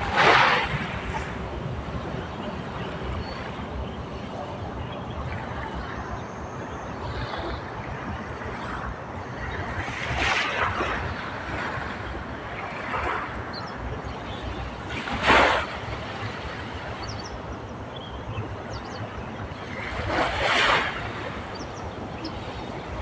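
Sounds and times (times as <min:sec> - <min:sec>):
sea waves washing ashore: 0:00.0 - 0:23.0.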